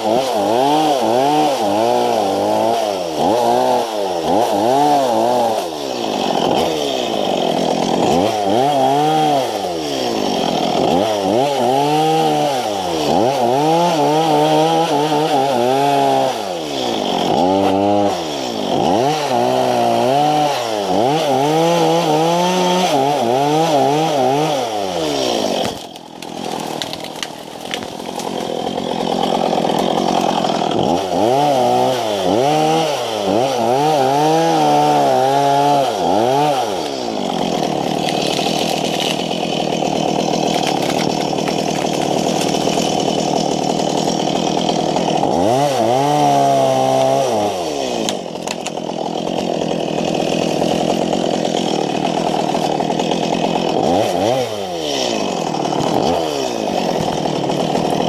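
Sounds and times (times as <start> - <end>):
chainsaw cutting brush: 0.0 - 58.0
chainsaw engine revving: 0.0 - 58.0.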